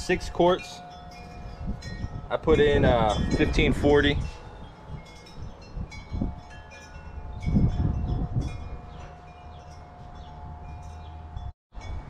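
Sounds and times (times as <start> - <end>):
chime-like ringing tones: 0.0 - 12.0.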